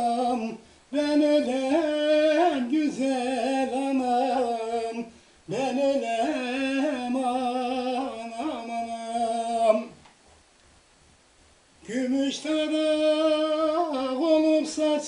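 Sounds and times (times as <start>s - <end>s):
man singing unaccompanied: 0.0s - 10.0s, 11.8s - 15.0s.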